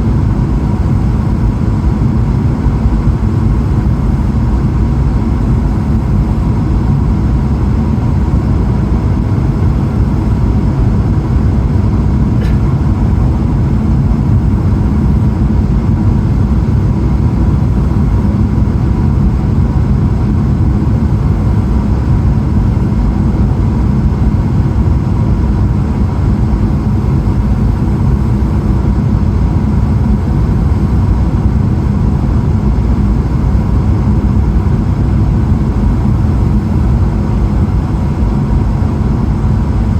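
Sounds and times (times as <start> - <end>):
airflow over fuselage: 0.0 - 39.9
jet engine rumble: 0.0 - 39.9.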